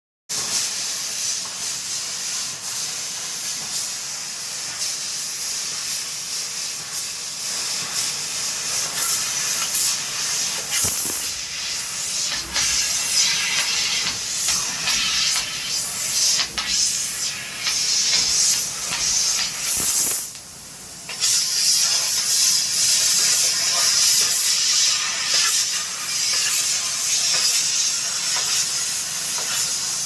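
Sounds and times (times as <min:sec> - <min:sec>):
laser cutter gas hissing: 0:00.3 - 0:30.0.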